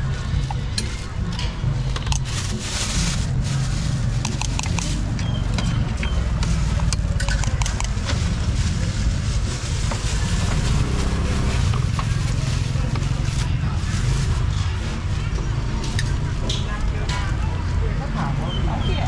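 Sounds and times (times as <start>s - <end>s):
low engine-like rumble: 0.0s - 19.0s.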